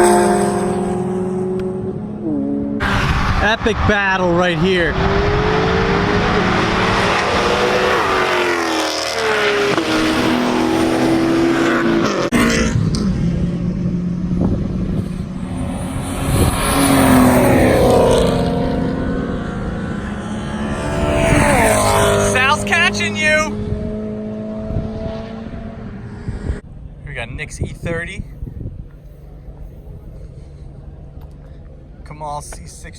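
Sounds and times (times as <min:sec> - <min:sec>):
race car engines revving: 0:00.0 - 0:27.1.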